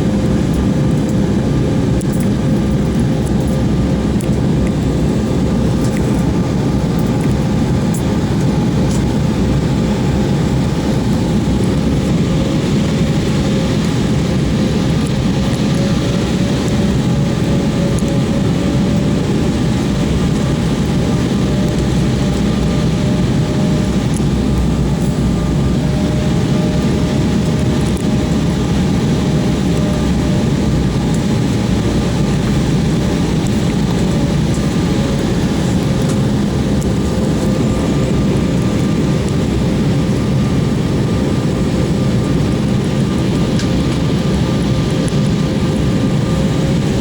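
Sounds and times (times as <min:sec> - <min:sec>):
airliner engines rumbling: 0:00.0 - 0:47.0
thin engine whine: 0:00.0 - 0:47.0.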